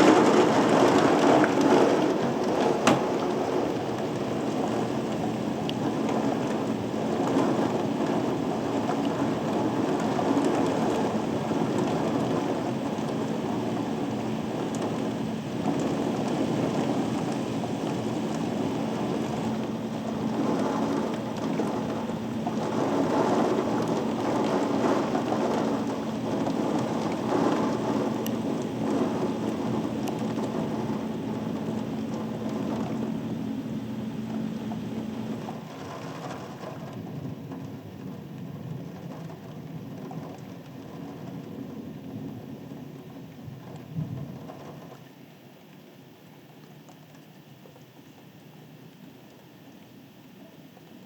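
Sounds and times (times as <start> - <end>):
thunder rumble: 0.0 - 45.0
heavy rain falling: 0.0 - 51.0.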